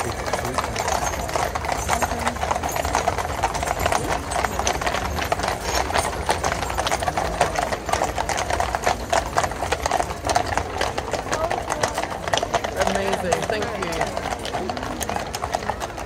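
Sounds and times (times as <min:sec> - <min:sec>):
hooves clip-clopping on tarmac: 0:00.0 - 0:16.0.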